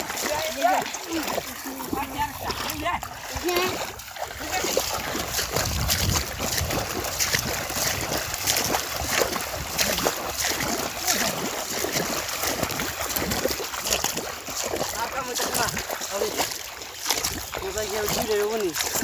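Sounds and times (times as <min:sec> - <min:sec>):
feet splashing through shallow water: 0:00.0 - 0:19.0
rush of disturbed water: 0:00.0 - 0:19.0.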